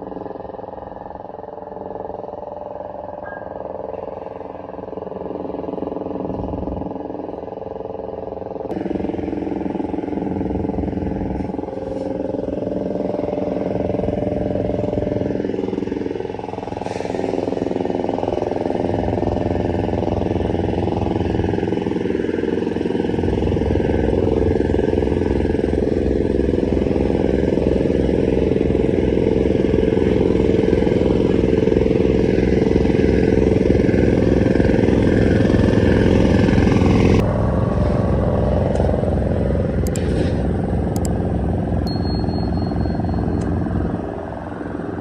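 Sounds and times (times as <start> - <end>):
engine throbbing: 0.0 - 45.0.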